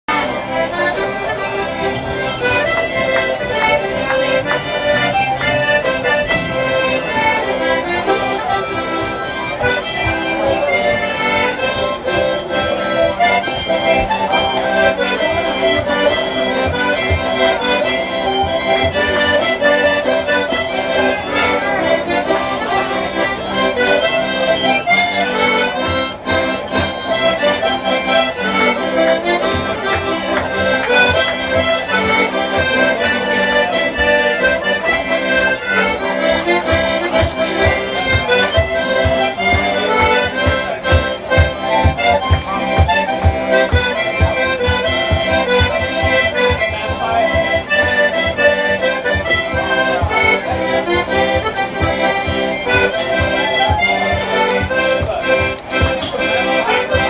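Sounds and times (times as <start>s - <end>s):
live instrumental jig: 0.1s - 57.0s.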